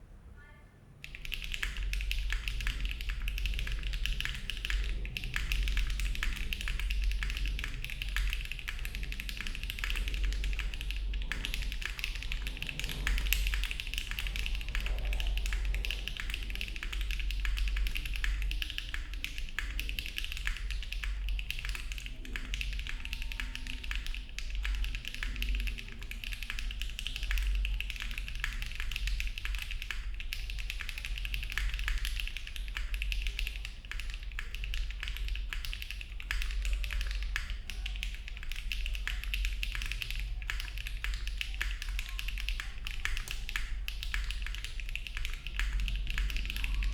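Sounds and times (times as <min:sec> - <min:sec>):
mechanical keyboard typing: 0:01.0 - 0:46.9.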